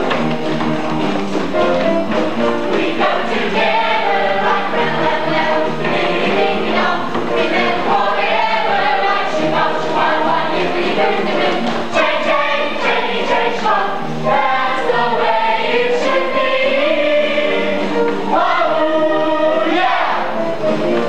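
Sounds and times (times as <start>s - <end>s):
musical accompaniment: 0.0s - 21.0s.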